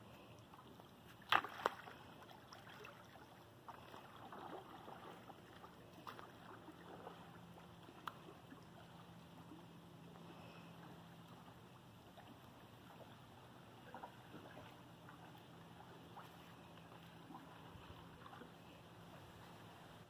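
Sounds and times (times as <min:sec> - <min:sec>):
low steady hum: 0:00.0 - 0:20.0
water lapping and dripping: 0:00.0 - 0:20.0
small water splashes: 0:00.1 - 0:19.8.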